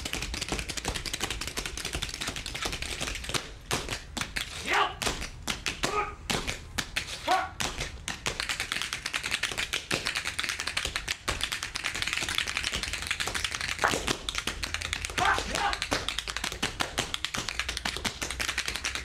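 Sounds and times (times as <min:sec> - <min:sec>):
tap shoes striking floor: 0:00.0 - 0:19.0.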